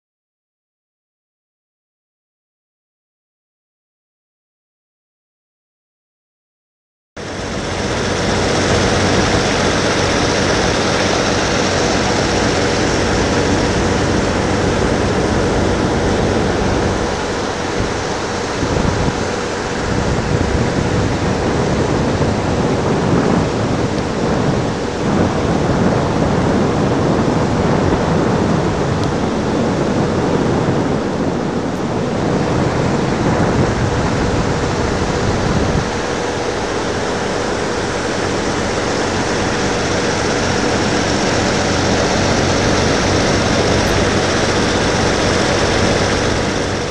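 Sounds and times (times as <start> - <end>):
faint machinery hum: 7.2 - 46.9
wind rushing on the microphone: 7.2 - 46.9.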